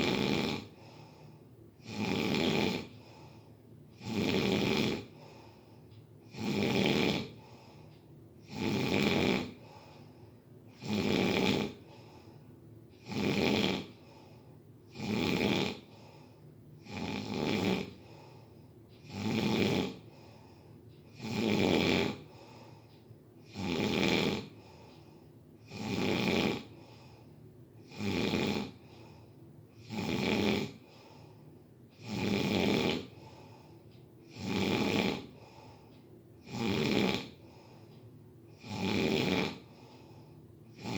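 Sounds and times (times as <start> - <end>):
person snoring: 0.0 - 5.6, 6.2 - 10.1, 10.7 - 12.4, 13.0 - 31.4, 32.0 - 37.9, 38.5 - 40.9
quiet breathing: 0.0 - 40.9.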